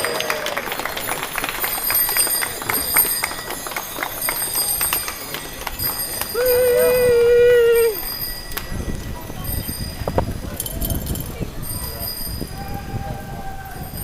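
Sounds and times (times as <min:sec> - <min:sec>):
bicycle bells ringing: 0:00.0 - 0:14.0.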